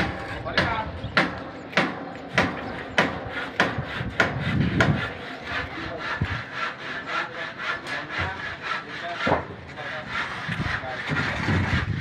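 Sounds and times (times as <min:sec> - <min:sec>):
strokes on metal roofing: 0:00.0 - 0:12.0.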